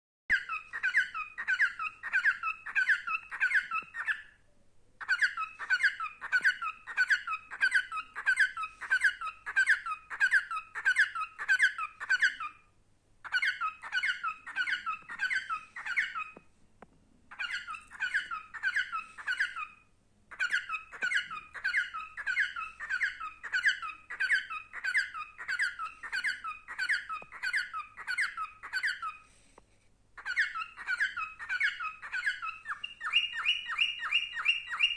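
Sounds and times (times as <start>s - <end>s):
cockatiel chirping squeaky notes: 0.3s - 4.4s, 5.0s - 12.6s, 13.2s - 16.4s, 17.3s - 29.2s, 30.2s - 34.9s.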